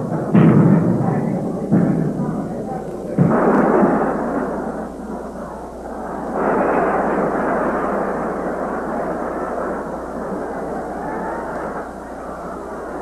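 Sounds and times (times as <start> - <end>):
muffled stadium crowd roaring: 0.0 - 13.0.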